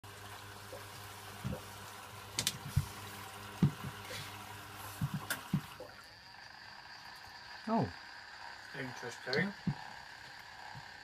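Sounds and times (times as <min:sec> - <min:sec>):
washing machine low hum: 0:00.0 - 0:11.0
water trickling into drum: 0:00.0 - 0:11.0.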